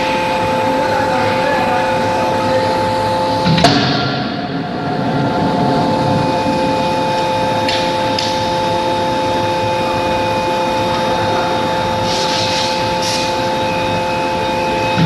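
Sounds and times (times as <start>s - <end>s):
hydraulic machinery hum: 0.0s - 15.0s.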